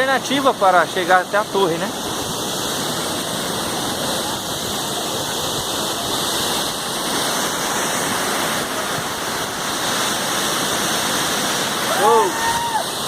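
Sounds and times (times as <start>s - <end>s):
waterfall crashing into pool: 0.0s - 13.0s.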